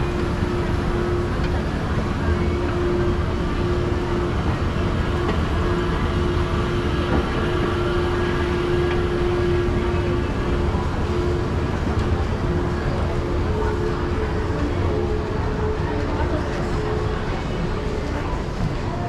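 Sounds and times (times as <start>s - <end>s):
escalator rumble: 0.0s - 19.0s
steady hum tone: 0.0s - 19.0s.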